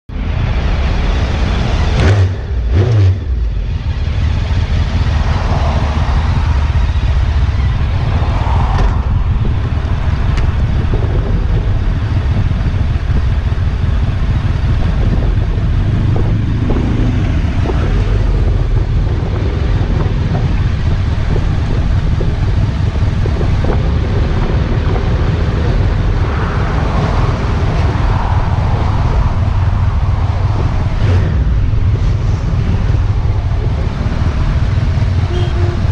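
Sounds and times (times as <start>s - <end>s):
motorcycle engine droning: 0.2s - 35.9s
wind buffeting microphone: 3.6s - 35.9s.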